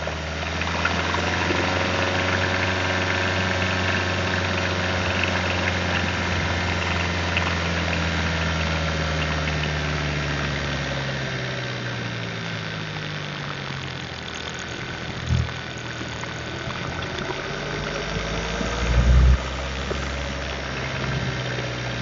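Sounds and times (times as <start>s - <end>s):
deep drone: 0.0s - 22.0s
petrol engine running with rattle: 0.0s - 22.0s.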